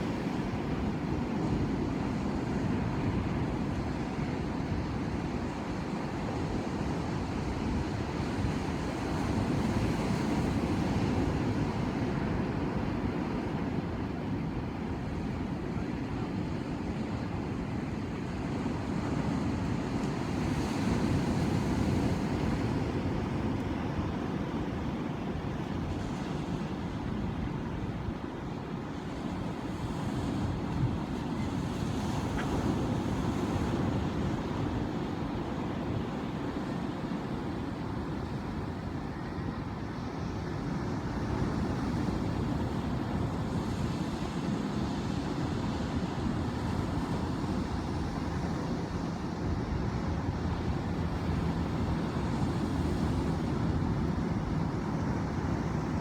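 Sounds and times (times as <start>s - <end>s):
waves breaking and washing in: 0.0s - 56.0s.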